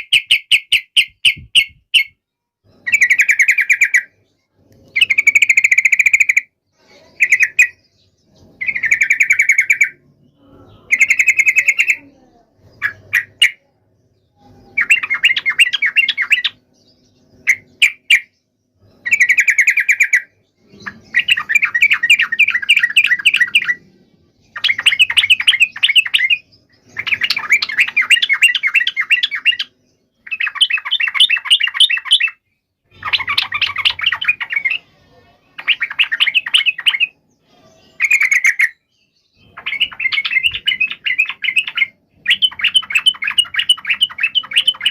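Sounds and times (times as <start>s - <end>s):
bird chirps: 0.0s - 44.9s
birds chattering trills: 0.0s - 44.9s.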